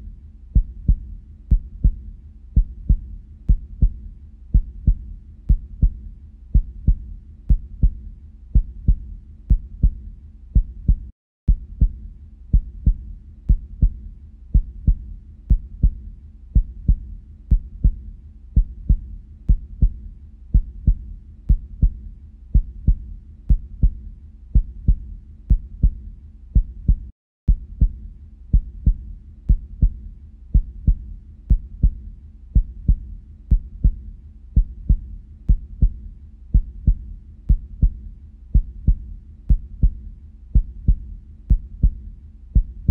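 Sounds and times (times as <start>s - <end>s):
heartbeat thumps: 0.0s - 42.9s.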